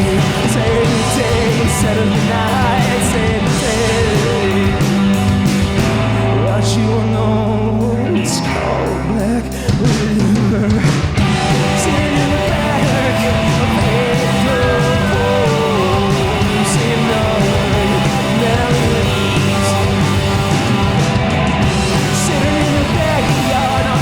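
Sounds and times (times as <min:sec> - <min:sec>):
live rock band playing: 0:00.0 - 0:24.0
wavering electric guitar lead: 0:00.0 - 0:24.0.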